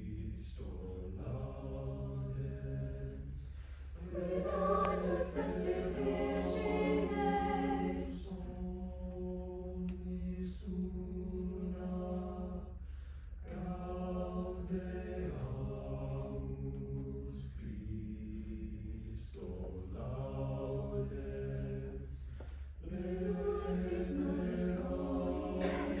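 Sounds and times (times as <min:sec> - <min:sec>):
choir singing sustained chords: 0:00.0 - 0:12.8, 0:13.4 - 0:26.0.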